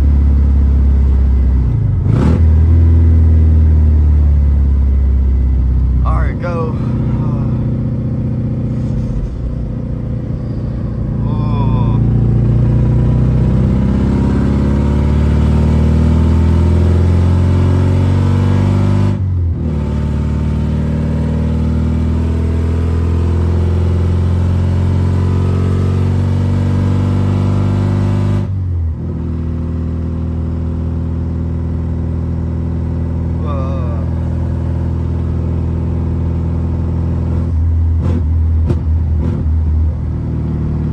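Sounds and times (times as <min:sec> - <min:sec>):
car exhaust accelerating: 0:00.0 - 0:40.9.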